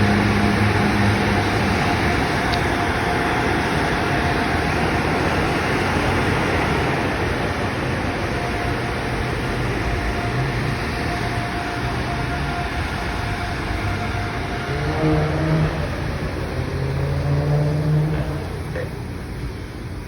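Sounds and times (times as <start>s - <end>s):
machine whine sliding in pitch: 0.0s - 19.6s
car wash spray rushing: 0.0s - 20.0s.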